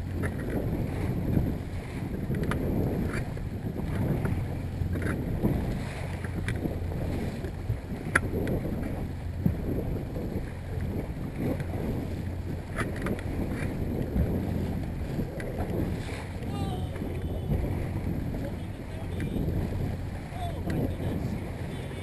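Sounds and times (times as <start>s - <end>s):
outboard motor humming: 0.0s - 22.0s
water washing along hull: 0.0s - 22.0s
wind on microphone: 0.0s - 22.0s.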